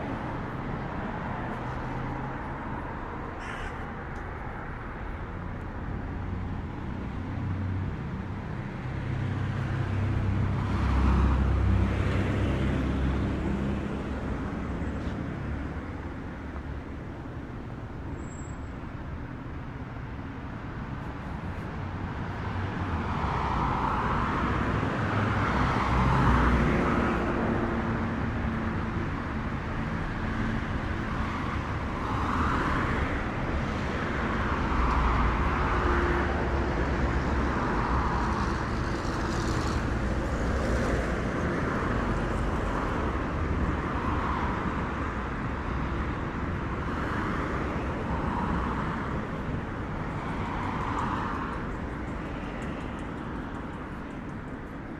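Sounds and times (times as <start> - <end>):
cars passing: 0.0 - 18.1, 19.0 - 54.9
road rumble: 0.0 - 54.9.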